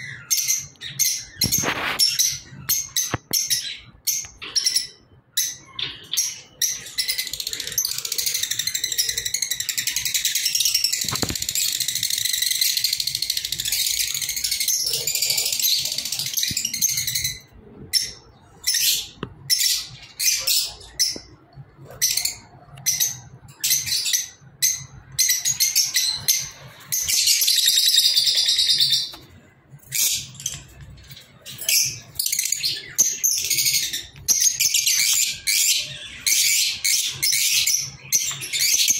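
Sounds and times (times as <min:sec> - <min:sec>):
lovebirds chattering: 0:00.0 - 0:38.9.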